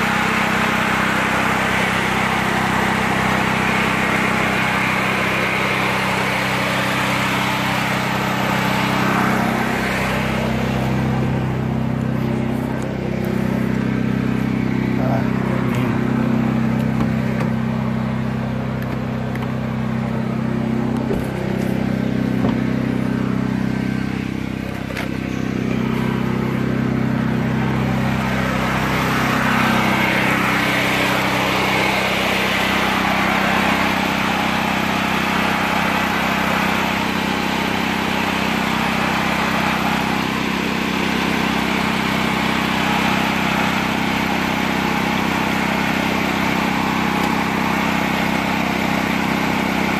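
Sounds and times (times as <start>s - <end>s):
generator engine running: 0.0s - 49.9s.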